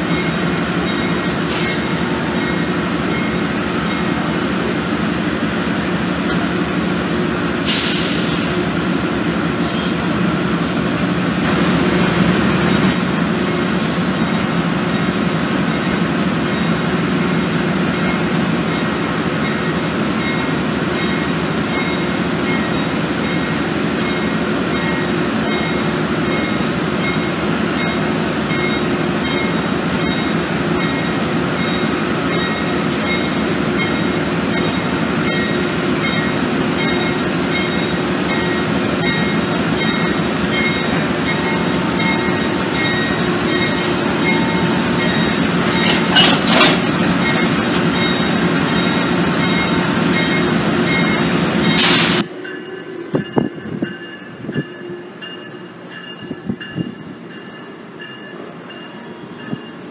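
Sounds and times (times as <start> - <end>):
train wheels rumbling: 0.0 - 59.9.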